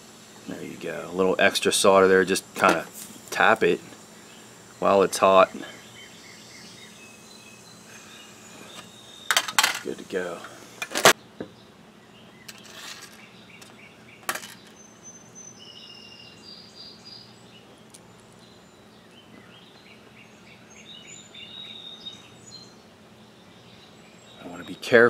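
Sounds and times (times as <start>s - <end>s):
faint outdoor noise: 0.0s - 25.0s
small birds chirping: 0.0s - 25.0s.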